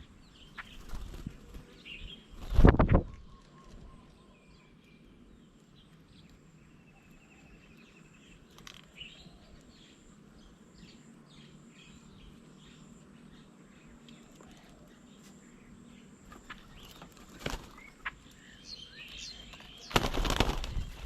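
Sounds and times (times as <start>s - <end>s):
faint birds calling: 0.0s - 21.0s.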